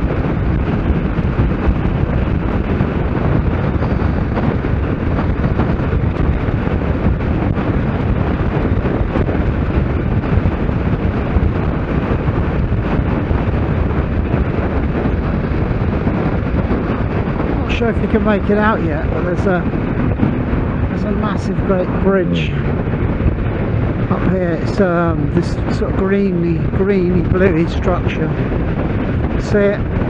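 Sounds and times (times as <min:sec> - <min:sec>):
motorcycle engine cruising: 0:00.0 - 0:26.1
wind buffeting microphone: 0:00.0 - 0:30.0.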